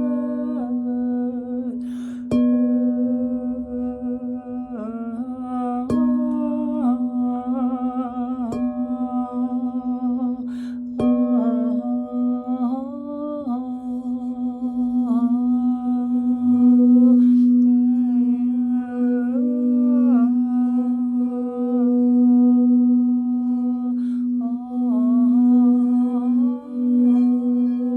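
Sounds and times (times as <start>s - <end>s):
person humming: 0.0s - 27.9s
singing bowl tone: 0.0s - 27.9s.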